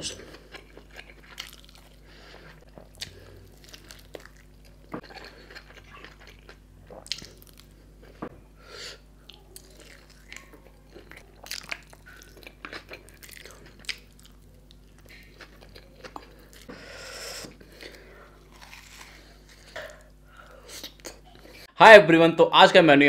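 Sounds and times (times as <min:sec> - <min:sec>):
close chewing and crunching: 0:00.0 - 0:08.3, 0:09.2 - 0:16.8, 0:17.4 - 0:21.7
faint steady hum: 0:00.0 - 0:23.0.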